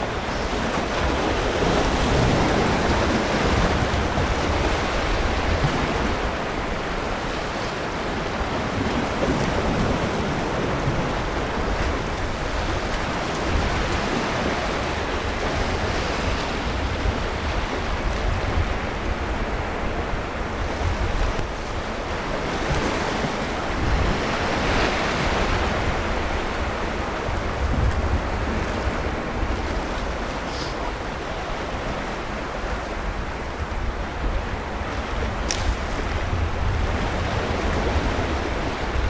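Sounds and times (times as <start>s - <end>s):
sea surf washing on beach: 0.0s - 39.0s.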